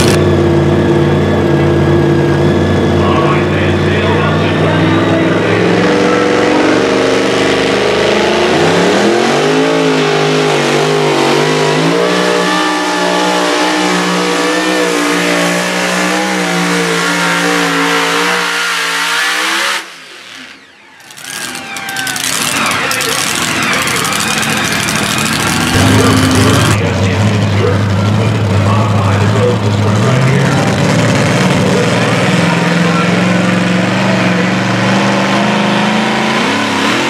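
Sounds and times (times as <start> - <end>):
supercharged engine at full throttle: 0.0 - 37.0.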